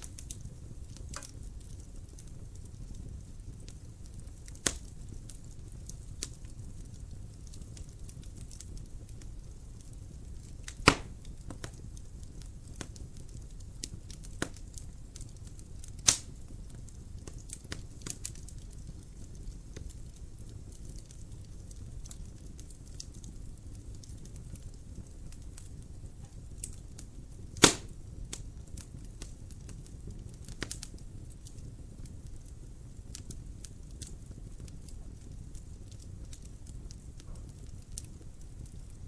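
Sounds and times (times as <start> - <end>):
low steady fire rumble: 0.0 - 39.0
sharp pops of fire: 0.0 - 39.0
wood fire crackling: 0.0 - 39.0.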